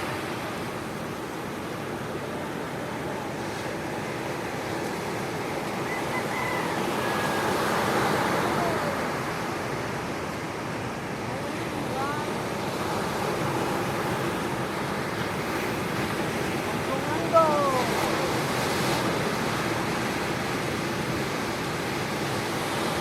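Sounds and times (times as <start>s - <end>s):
sea surf washing ashore: 0.0s - 23.0s.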